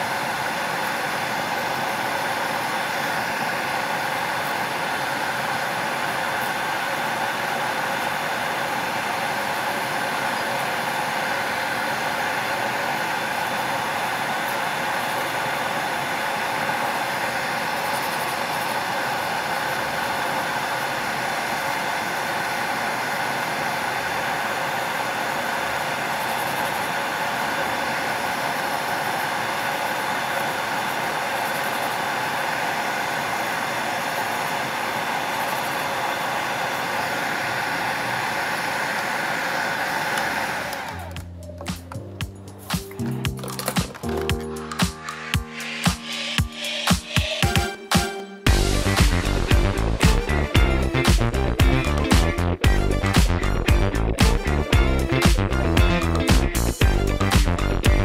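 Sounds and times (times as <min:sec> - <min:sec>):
dust collector fan whirring: 0:00.0 - 0:58.0.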